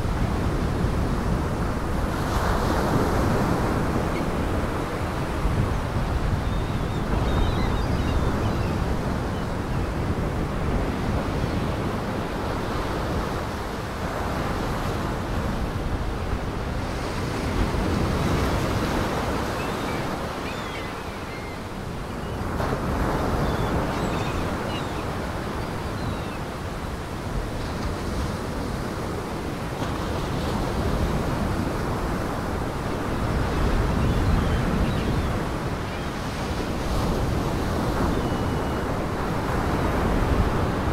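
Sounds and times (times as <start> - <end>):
waves breaking and washing: 0.0 - 40.9
wind: 0.0 - 40.9.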